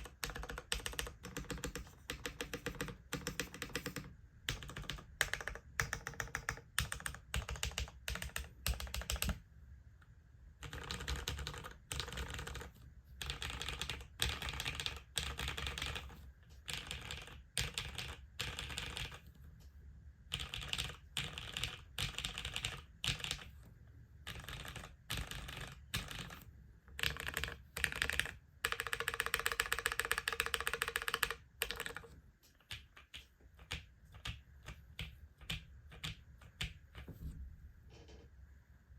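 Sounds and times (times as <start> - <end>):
typing on mechanical keyboard: 0.0 - 9.4, 10.6 - 19.3, 20.3 - 23.6, 24.2 - 37.1.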